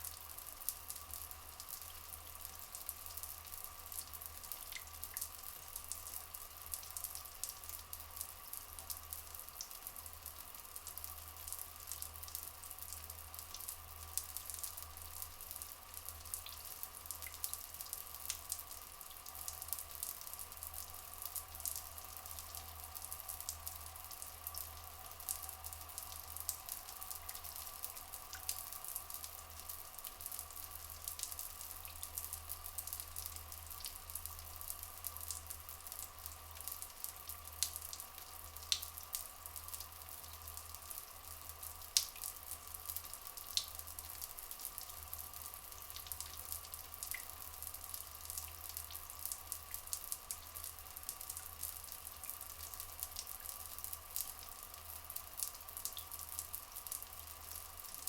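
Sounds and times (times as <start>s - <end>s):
water dripping and splashing: 0.0s - 58.0s.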